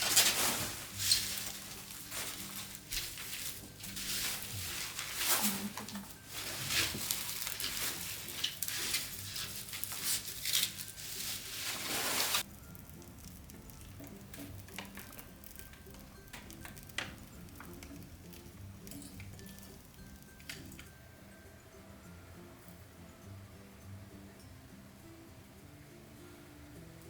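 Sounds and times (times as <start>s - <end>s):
wood fire crackling and hissing: 0.0s - 27.0s.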